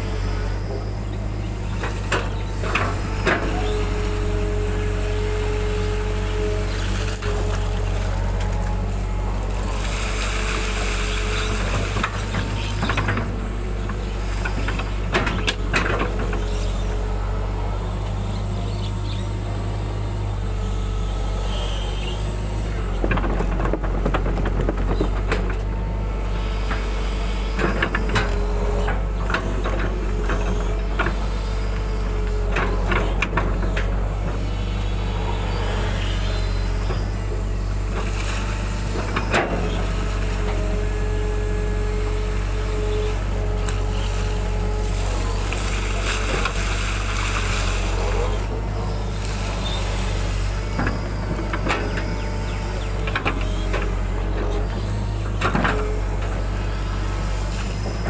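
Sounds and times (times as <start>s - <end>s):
diesel engine running: 0.0s - 58.0s
hydraulic whine: 0.0s - 58.0s.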